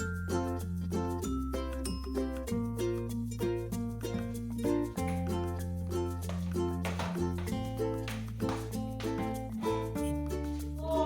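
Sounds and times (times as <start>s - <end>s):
upbeat music with plucked melody: 0.0s - 11.0s.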